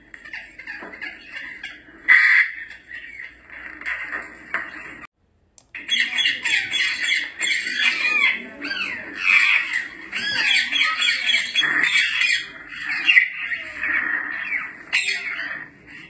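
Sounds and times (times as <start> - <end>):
parrots squawking and whistling: 0.0 - 5.0, 5.8 - 16.0.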